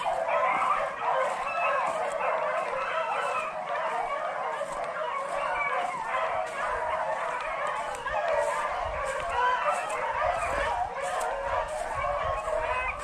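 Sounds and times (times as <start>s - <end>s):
dogs baying and yipping: 0.0s - 13.0s.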